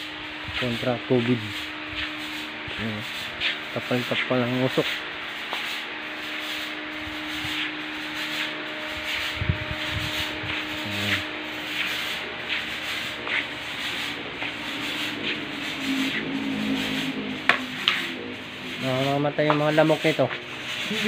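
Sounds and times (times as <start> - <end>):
fogging machine hissing: 0.0 - 21.0.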